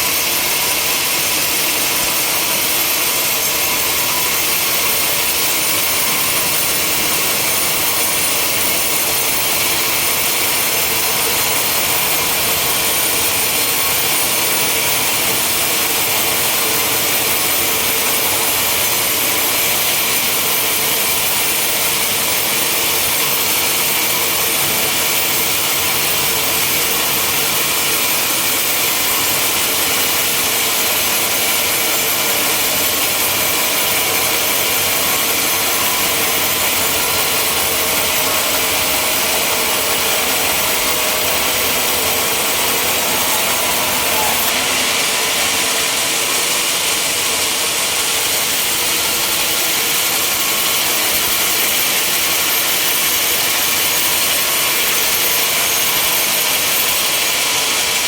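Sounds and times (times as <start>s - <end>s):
sawmill sawing timber: 0.0s - 58.0s.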